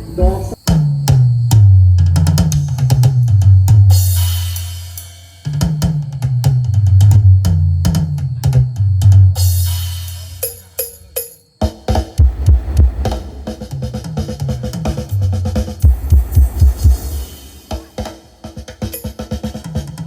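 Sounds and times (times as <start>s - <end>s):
music with drum beat: 0.1s - 20.0s.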